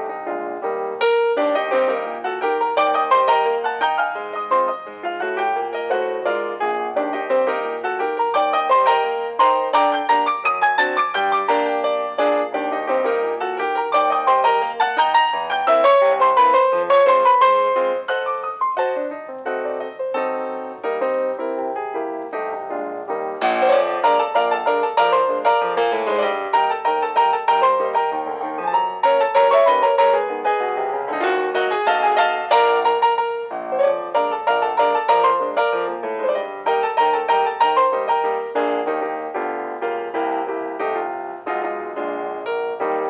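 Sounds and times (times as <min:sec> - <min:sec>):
piano music: 0:00.0 - 0:43.0.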